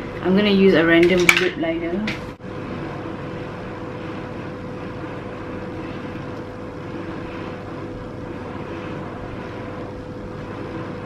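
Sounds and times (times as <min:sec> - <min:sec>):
droning hum with constant tone: 0:00.0 - 0:11.0.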